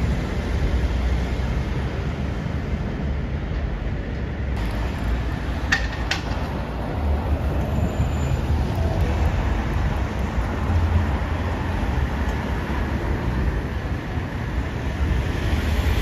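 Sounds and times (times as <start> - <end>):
bus driving past: 0.0 - 16.0
road traffic rumble: 0.0 - 16.0.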